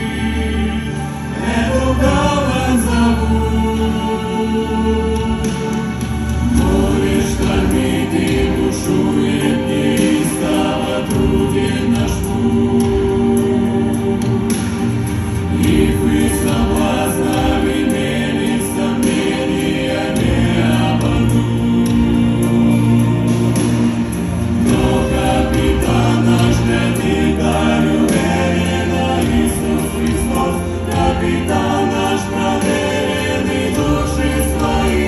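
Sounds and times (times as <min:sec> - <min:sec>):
choir singing sustained chords: 0:00.0 - 0:35.0
musical accompaniment: 0:00.0 - 0:35.0.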